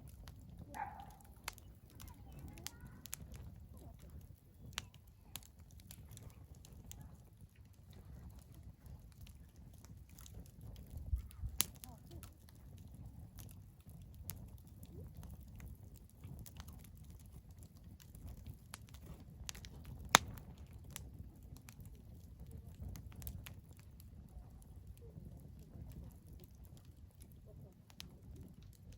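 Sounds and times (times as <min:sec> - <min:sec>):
wood fire popping and snapping: 0:00.0 - 0:28.9.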